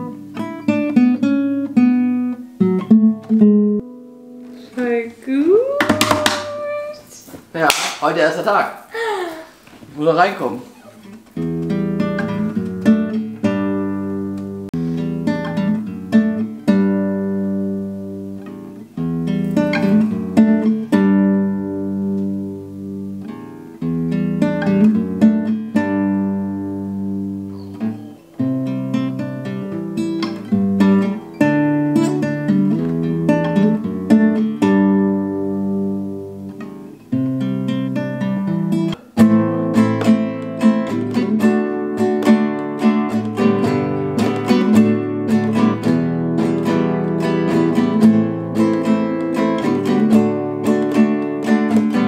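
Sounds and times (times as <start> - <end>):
acoustic guitar chords strummed: 0.0 - 5.0, 11.0 - 52.0.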